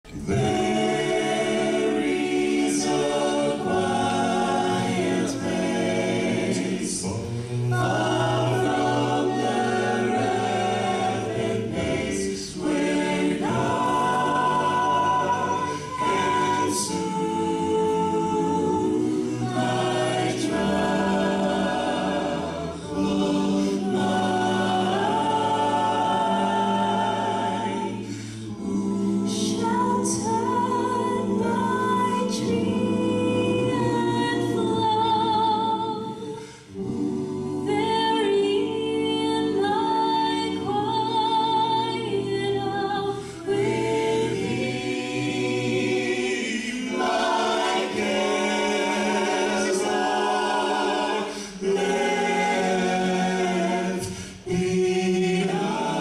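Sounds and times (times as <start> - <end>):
a cappella gospel choir: 0.0 - 56.0.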